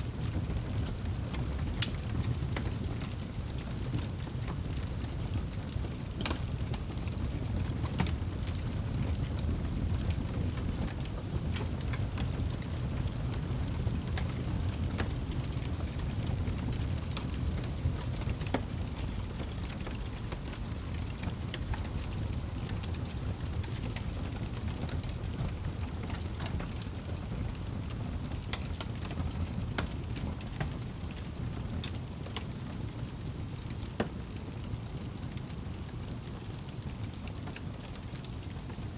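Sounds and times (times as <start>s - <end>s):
fire crackles and pops: 0.0s - 38.9s
fire low rumble: 0.0s - 38.9s.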